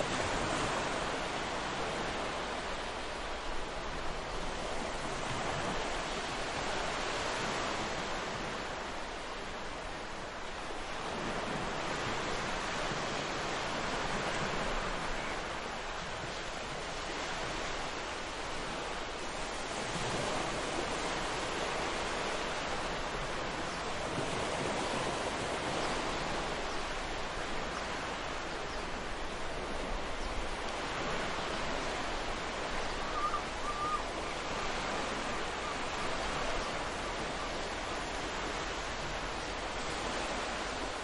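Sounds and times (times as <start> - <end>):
ocean waves on beach: 0.0 - 41.0.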